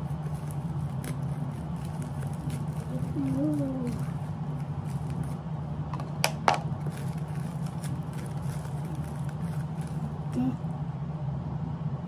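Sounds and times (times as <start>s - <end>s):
plastic wrapper rustling: 0.0s - 10.4s
steady low hum: 0.0s - 12.0s.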